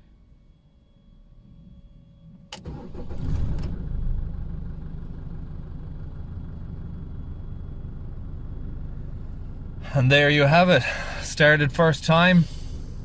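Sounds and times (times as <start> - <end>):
car engine starting and idling: 1.2 - 13.0.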